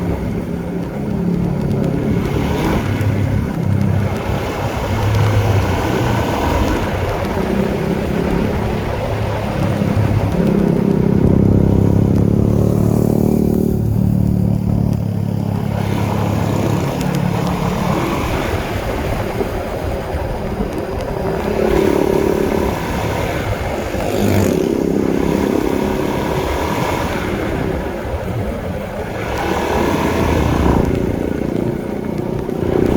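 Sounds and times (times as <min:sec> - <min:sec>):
motorcycle engine running: 0:00.0 - 0:32.9
road noise: 0:00.0 - 0:32.9.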